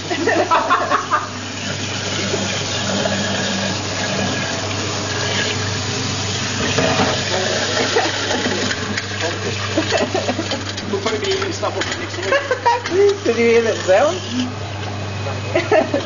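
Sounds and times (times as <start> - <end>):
water running from a tap: 0.0 - 14.9.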